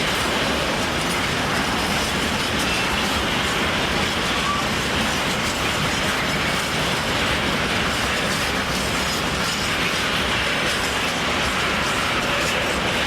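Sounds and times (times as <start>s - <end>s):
train wheels clattering: 0.0s - 13.0s
train wheels rolling on rails: 0.0s - 13.0s.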